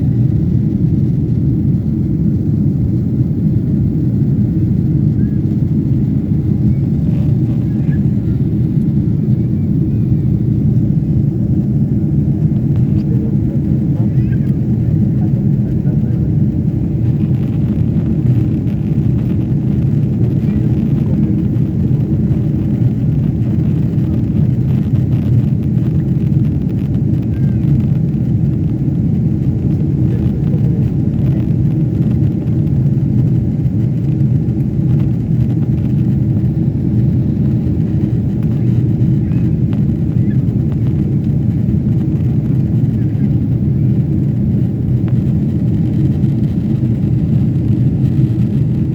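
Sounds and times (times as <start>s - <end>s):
jet engine rumble in cabin: 0.0s - 48.9s.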